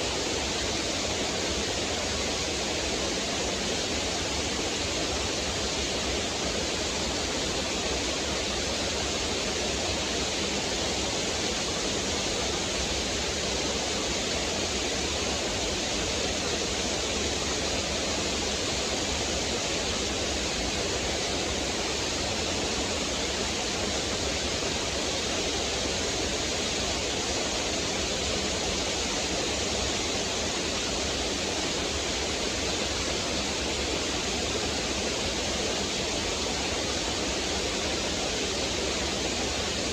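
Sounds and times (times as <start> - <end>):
waterfall splashing over rocks: 0.0 - 39.9.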